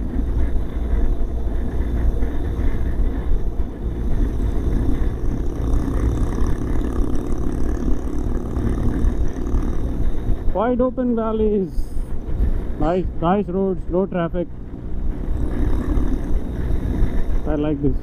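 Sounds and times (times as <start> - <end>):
motorcycle engine cruising: 0.0 - 18.0
wind and road rumble: 0.0 - 18.0.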